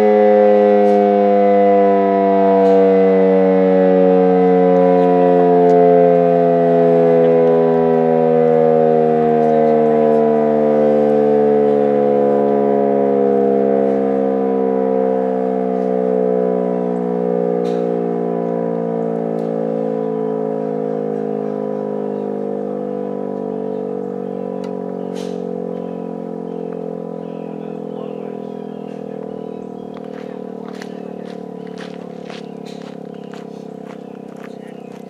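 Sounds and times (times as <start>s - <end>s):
mechanical siren winding down: 0.0s - 34.5s.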